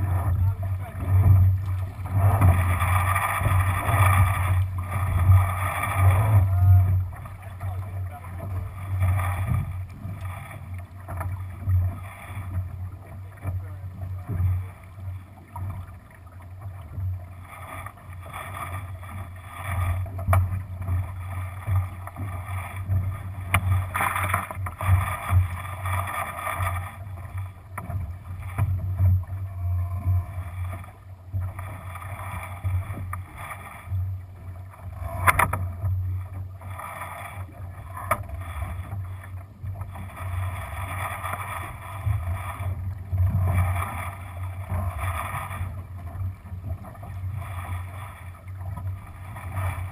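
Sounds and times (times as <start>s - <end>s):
water rushing along hull: 0.0s - 49.9s.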